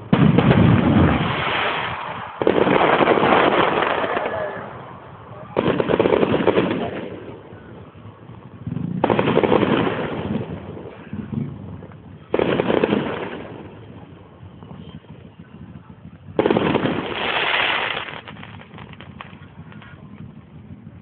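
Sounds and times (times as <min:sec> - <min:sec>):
fireworks bursting: 0:00.0 - 0:20.9
fireworks crackling: 0:00.0 - 0:21.0.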